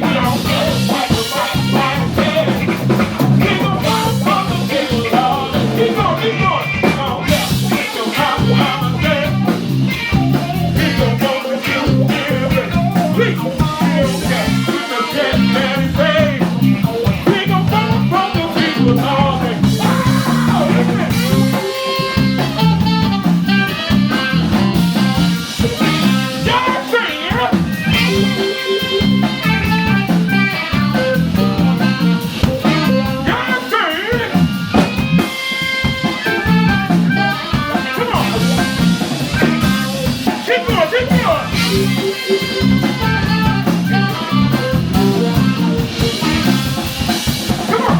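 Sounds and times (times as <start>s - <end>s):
drum kit: 0.0s - 47.9s
electric guitar: 0.0s - 47.9s.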